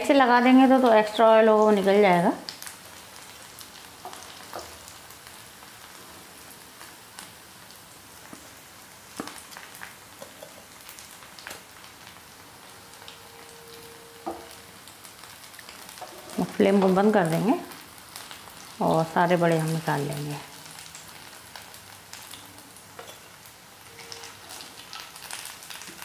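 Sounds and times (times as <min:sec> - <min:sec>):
hot oil sizzling in a frying pan: 0:00.0 - 0:26.0.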